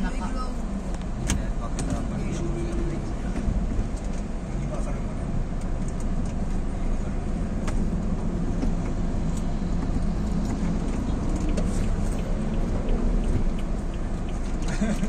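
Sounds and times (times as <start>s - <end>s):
vehicle engine low hum: 0.0s - 15.0s.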